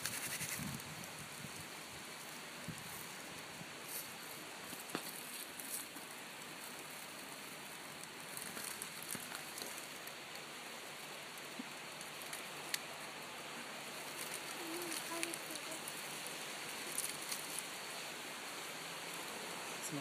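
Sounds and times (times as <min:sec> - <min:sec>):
dry leaves crackling: 0:00.0 - 0:20.0
steady outdoor rushing noise: 0:00.0 - 0:20.0.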